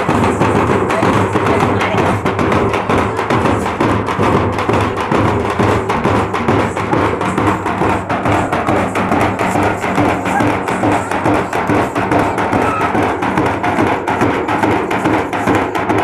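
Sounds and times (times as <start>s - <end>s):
drums beaten with sticks: 0.0s - 16.0s.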